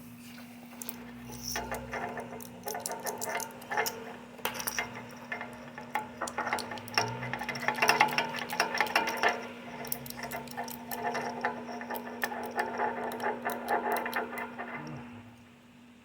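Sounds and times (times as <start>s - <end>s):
steady low hum: 0.0s - 16.0s
small hand tools clicking and rattling: 0.7s - 15.0s.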